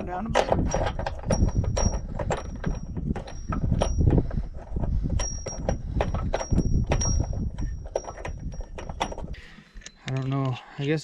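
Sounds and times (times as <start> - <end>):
metallic clicks and knocks: 0.0 - 10.6.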